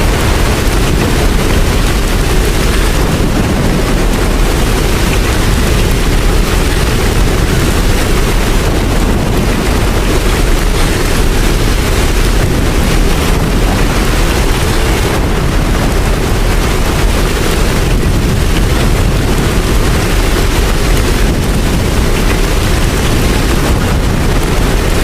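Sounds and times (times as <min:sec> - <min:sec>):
deep rumble: 0:00.0 - 0:25.0
heavy rain: 0:00.0 - 0:25.0.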